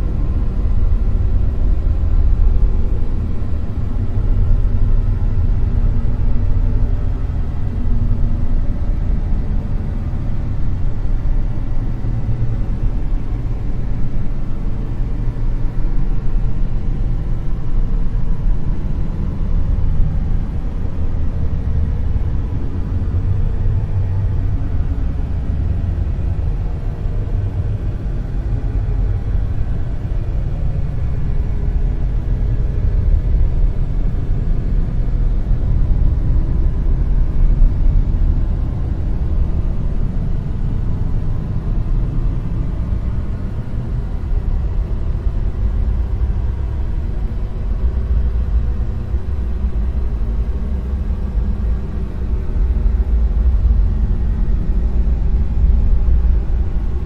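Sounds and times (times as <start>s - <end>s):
deep rumbling hiss: 0.0s - 57.0s.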